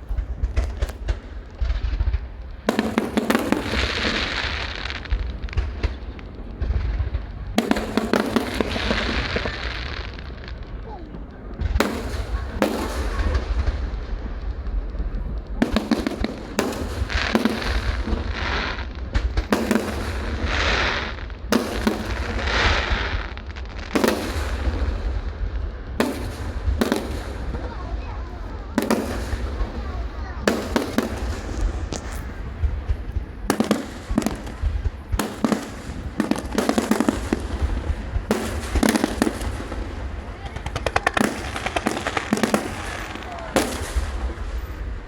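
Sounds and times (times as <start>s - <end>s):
fireworks bangs: 0.0s - 45.0s
fireworks crackling: 0.0s - 45.0s.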